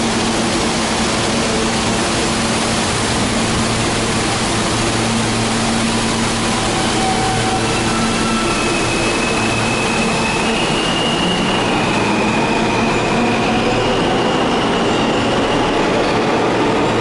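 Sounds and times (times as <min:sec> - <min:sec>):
subway train rumble and rail noise: 0:00.0 - 0:17.0.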